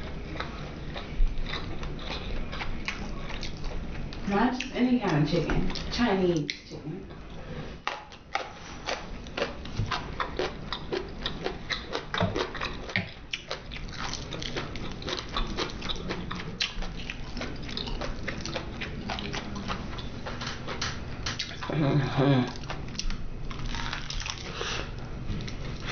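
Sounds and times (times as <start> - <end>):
chewing and mouth clicks: 0.1 - 25.9.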